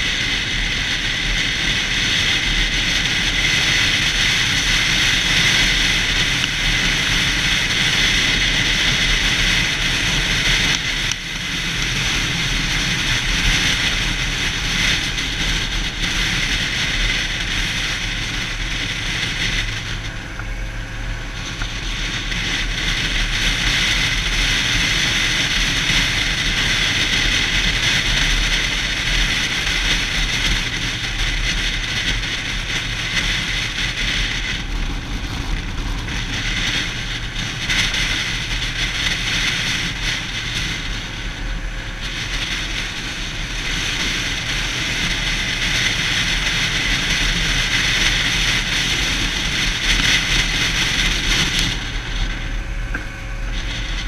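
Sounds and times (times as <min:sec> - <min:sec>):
motorcycle engine running: 0:00.0 - 0:54.0
wind rush over camera: 0:00.0 - 0:54.0.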